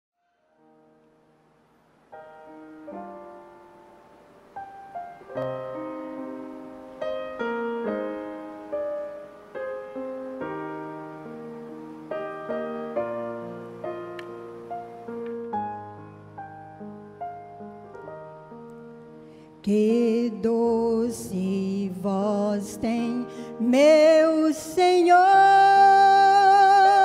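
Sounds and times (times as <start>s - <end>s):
keyboard piano chords: 0.6s - 27.0s.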